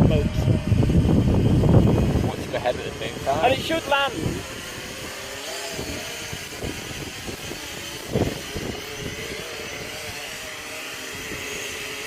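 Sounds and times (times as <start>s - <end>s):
drone propellers whining: 0.0s - 12.0s
wind gusting on microphone: 0.0s - 12.0s.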